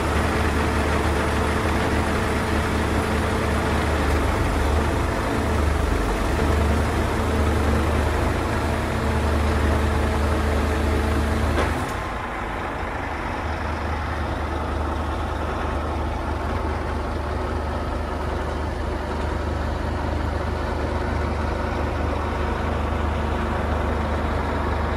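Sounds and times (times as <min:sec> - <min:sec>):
truck diesel engine idling: 0:00.0 - 0:24.9.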